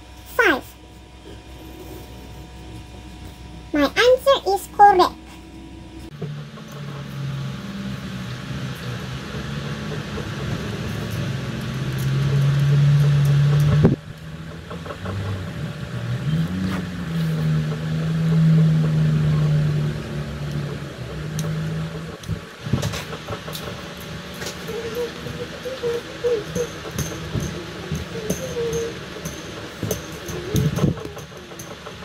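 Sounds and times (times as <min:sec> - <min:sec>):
vehicle engine hum: 0:00.0 - 0:32.0.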